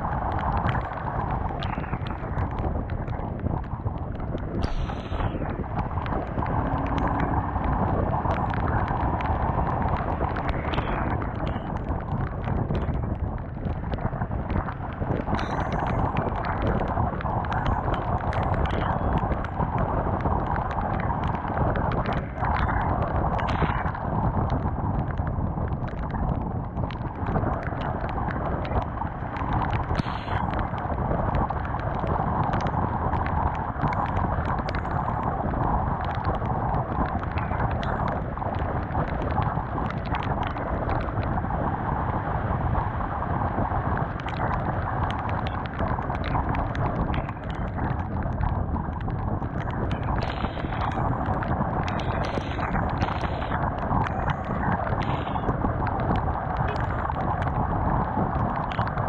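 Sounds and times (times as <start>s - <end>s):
motorcycle engine and road noise: 0.0s - 59.0s
wind rush on microphone: 0.0s - 59.0s
small ticks: 0.1s - 41.6s, 43.6s - 59.0s.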